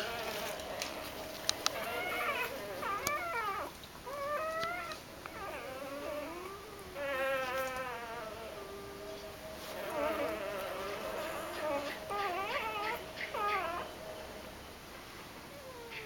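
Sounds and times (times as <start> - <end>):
puppies squeaking and whimpering: 0.0 - 14.5, 15.5 - 16.0.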